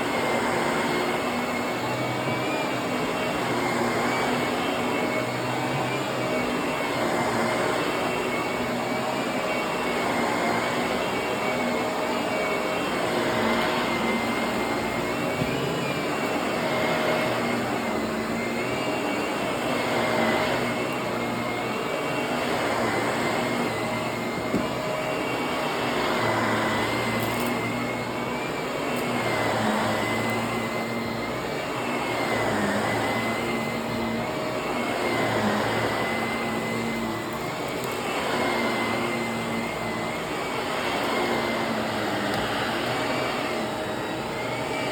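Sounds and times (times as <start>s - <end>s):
vacuum cleaner on carpet: 0.0s - 44.9s.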